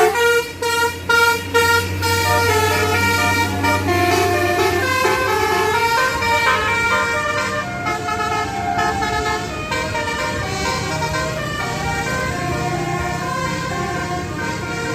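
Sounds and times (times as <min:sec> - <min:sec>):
bus air horn melody: 0:00.0 - 0:14.9.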